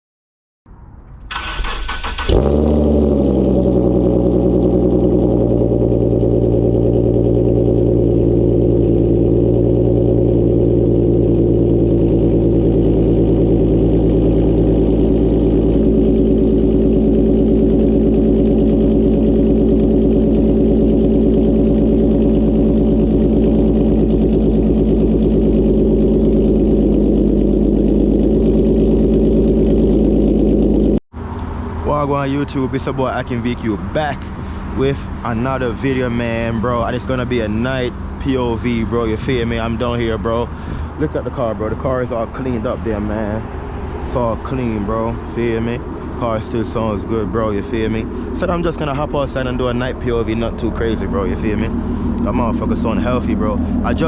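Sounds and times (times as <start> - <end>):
car engine idling: 0.7 - 54.0.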